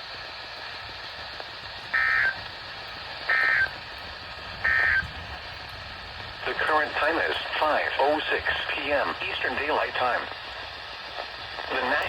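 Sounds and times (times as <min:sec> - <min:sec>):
radio receiver hiss: 0:00.3 - 0:05.2, 0:06.1 - 0:12.0.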